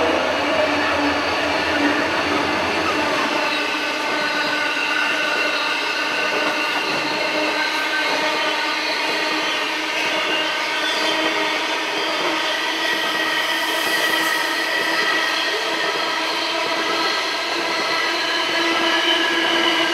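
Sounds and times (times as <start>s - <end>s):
freight train wheels rumbling on rails: 0.0s - 19.9s.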